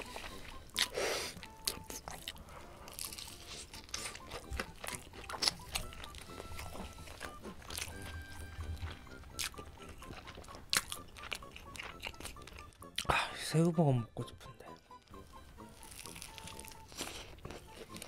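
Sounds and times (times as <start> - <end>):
person chewing crunchy food: 0.0 - 13.1, 14.8 - 18.0
faint background music: 0.0 - 18.0.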